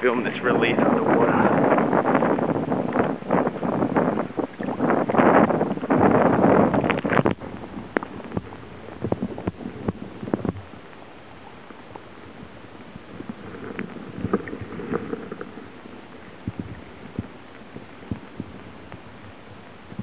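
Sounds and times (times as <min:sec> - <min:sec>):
steady wash of water: 0:00.0 - 0:20.0.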